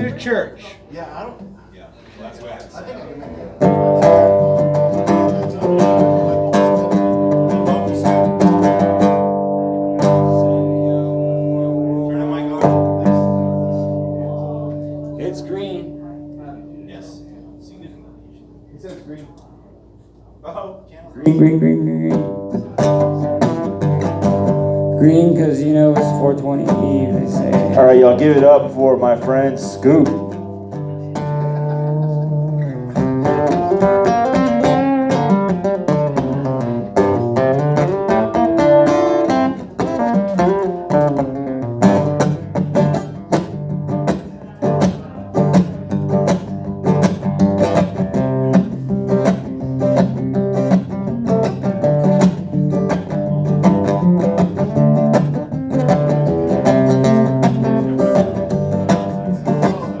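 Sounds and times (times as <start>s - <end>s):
acoustic guitar blues: 3.4s - 17.8s, 21.2s - 60.0s.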